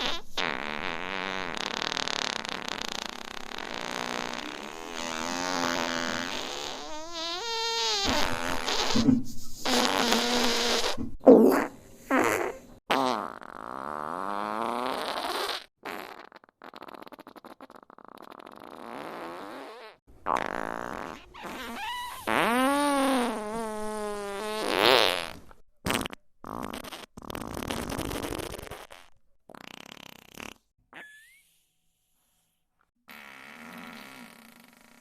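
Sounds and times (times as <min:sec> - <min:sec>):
fart sound effects: 0:00.0 - 0:31.6, 0:33.1 - 0:35.0.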